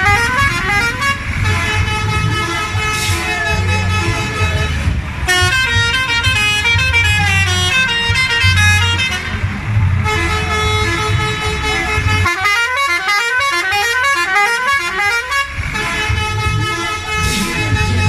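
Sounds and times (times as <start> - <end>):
bus musical horn melody: 0.0 - 18.0.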